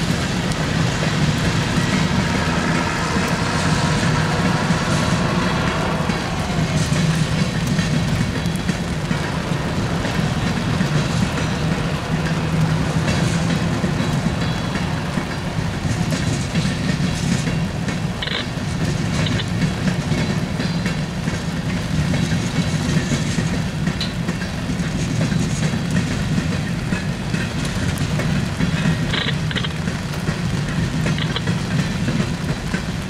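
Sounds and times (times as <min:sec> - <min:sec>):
freight train rumbling: 0:00.0 - 0:33.0
wheels clicking over rail joints: 0:00.0 - 0:33.0.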